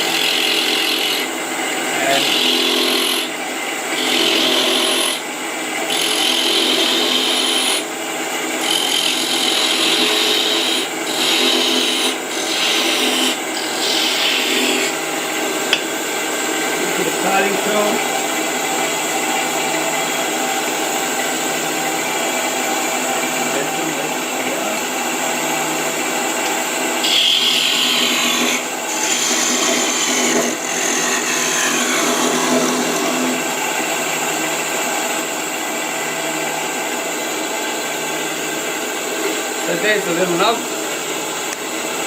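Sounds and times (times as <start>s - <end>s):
lathe motor hum: 0.0s - 42.0s
turning tool cutting wood: 0.0s - 42.0s.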